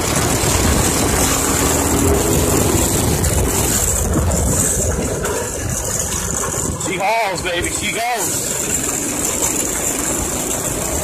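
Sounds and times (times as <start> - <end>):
even rushing noise: 0.0 - 11.0
mini bike engine running: 0.0 - 11.0.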